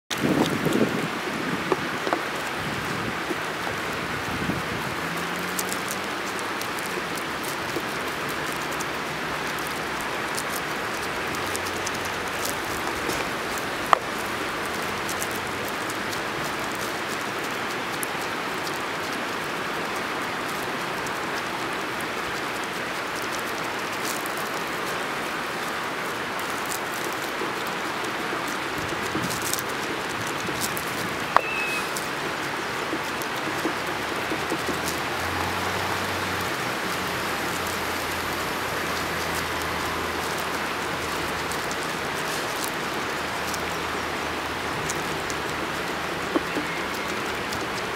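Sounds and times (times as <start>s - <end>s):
river water rushing: 0.1s - 47.9s.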